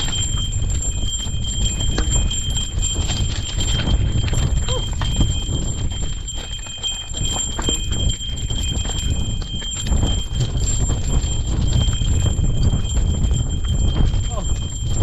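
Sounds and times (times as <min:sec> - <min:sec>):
footsteps on rocky trail: 0:00.0 - 0:15.0
wind rumble on microphone: 0:00.0 - 0:15.0.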